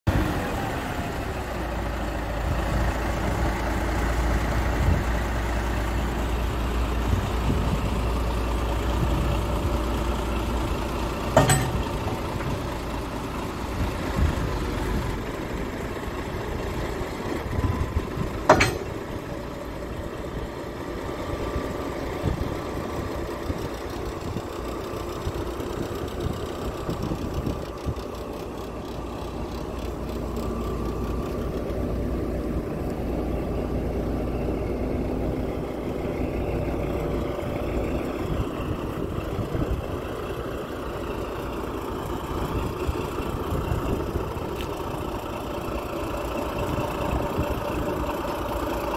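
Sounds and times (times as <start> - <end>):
bulldozer diesel engine idling: 0.1 - 48.9.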